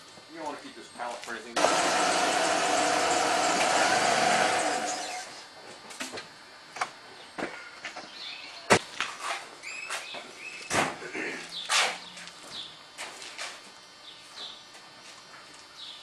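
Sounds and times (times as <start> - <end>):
mechanical running hum: 0.0 - 16.0.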